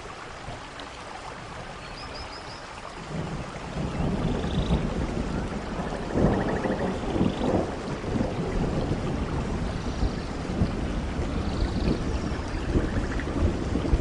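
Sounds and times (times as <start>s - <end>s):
rain on leaves: 0.0s - 14.0s.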